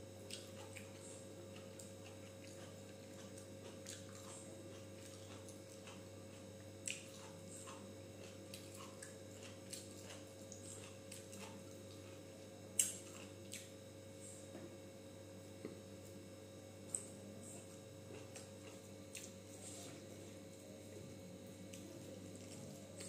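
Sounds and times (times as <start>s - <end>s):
steady low hum: 0.0s - 23.0s
soft chewing and mouth smacks: 0.2s - 14.7s, 16.8s - 23.0s.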